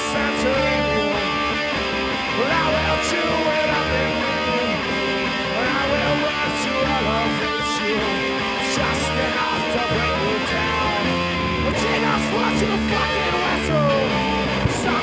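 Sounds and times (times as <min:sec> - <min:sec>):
instrumental rock band: 0:00.0 - 0:15.0.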